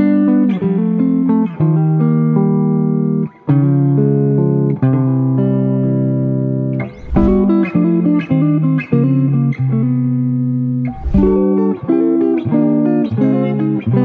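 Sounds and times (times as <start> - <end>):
electric guitar chords ringing: 0.0 - 14.0.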